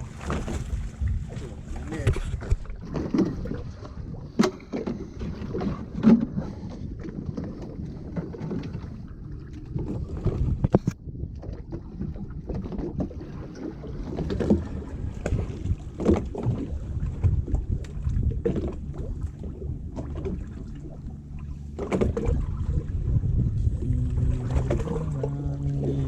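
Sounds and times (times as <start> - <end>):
boat engine rumble: 0.0 - 26.0.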